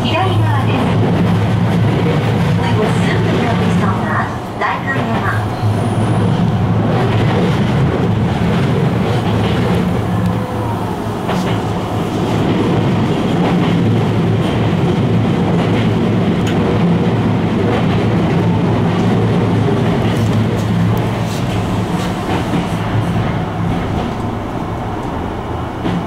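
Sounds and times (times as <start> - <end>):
electric train rumble and hum: 0.0 - 26.0.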